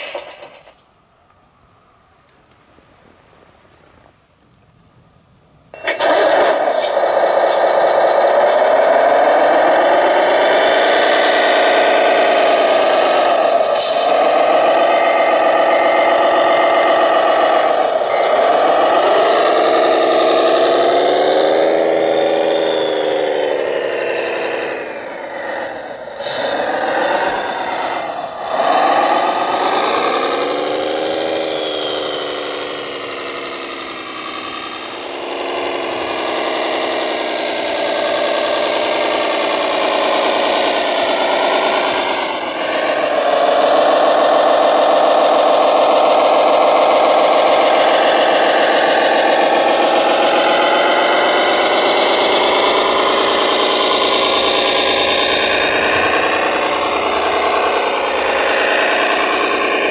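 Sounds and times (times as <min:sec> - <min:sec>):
rattle: 0:00.0 - 0:01.0, 0:05.8 - 0:59.9
model truck motor whine: 0:04.7 - 0:59.9.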